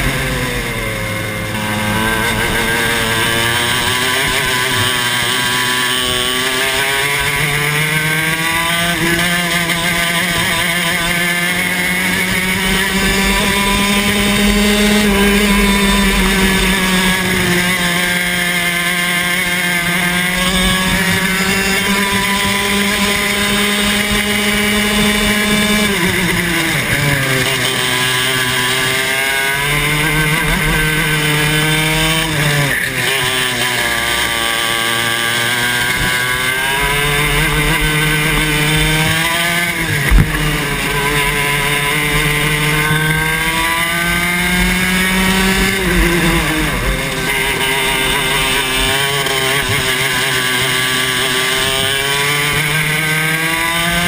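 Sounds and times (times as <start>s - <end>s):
kart engine at racing speed: 0.0s - 54.0s.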